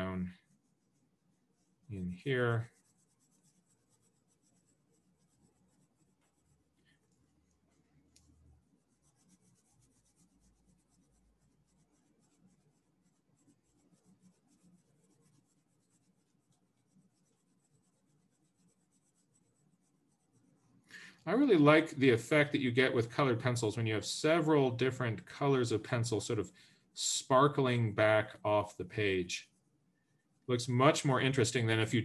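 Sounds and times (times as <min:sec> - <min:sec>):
colored pencil scratching on paper: 0:00.0 - 0:25.0, 0:29.0 - 0:31.4.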